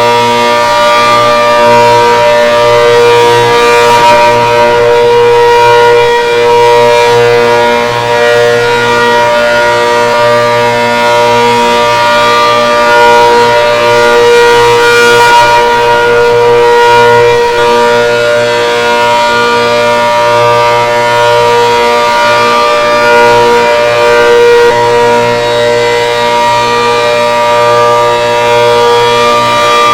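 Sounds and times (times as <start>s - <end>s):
multi-tone siren: 0.0s - 29.9s.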